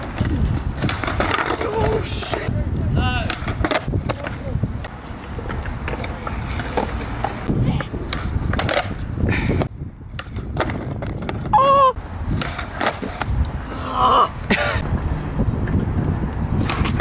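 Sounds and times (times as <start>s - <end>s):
skateboard slapping on concrete: 0.0s - 11.7s, 12.3s - 13.6s, 15.6s - 17.0s
skateboard wheels rolling: 0.0s - 17.0s
wind buffeting microphone: 0.0s - 17.0s.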